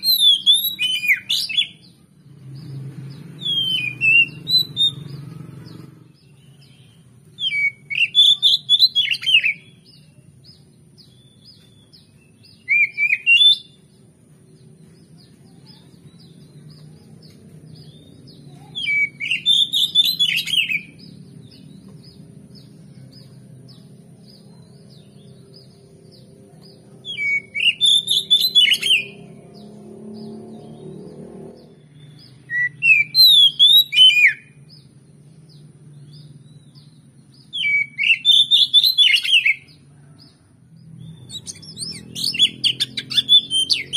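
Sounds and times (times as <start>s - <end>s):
magpie-robin singing: 0.0s - 43.9s.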